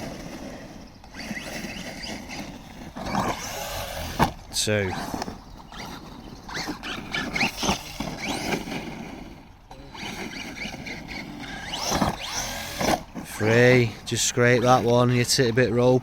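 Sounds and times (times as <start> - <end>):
electric motor whining: 0.0 - 15.6.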